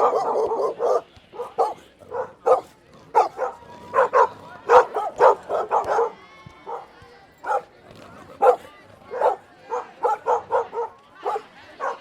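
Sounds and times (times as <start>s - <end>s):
dog barking: 0.0s - 7.7s, 8.4s - 12.0s.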